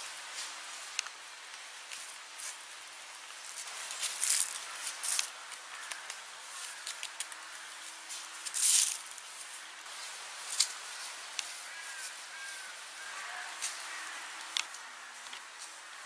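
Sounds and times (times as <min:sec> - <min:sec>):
bird rustling in dry leaves: 0:00.0 - 0:16.0.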